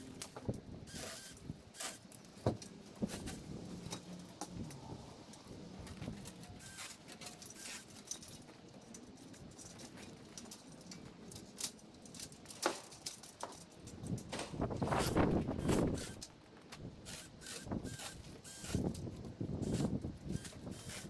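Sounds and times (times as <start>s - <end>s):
branches rustling: 0.0s - 21.0s.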